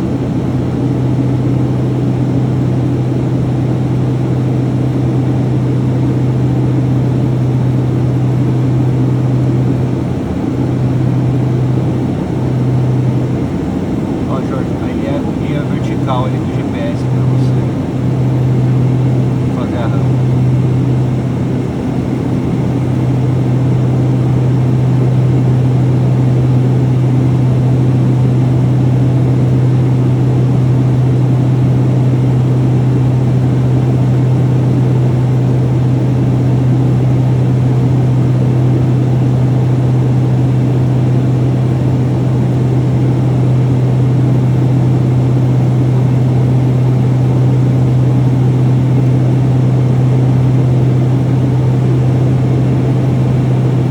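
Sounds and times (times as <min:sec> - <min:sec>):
turboprop cabin drone: 0:00.0 - 0:53.9.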